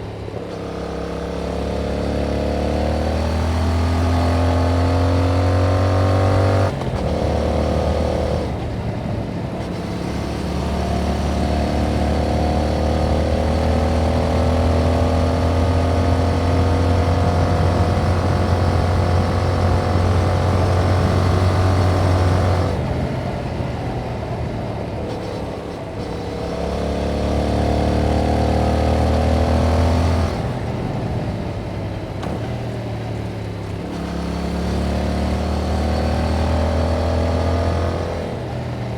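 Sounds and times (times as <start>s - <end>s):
motorcycle engine revving: 0.2s - 8.8s, 9.6s - 38.9s.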